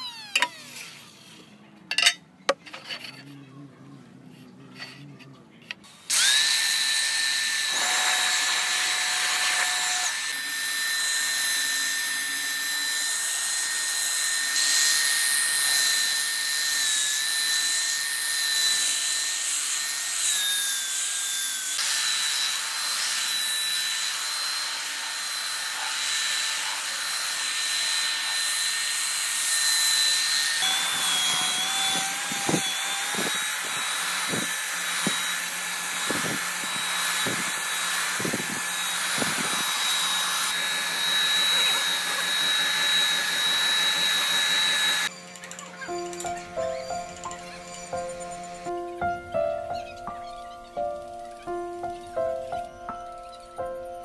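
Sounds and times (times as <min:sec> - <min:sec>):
power tool whine: 0:00.0 - 0:01.4, 0:05.9 - 0:48.8.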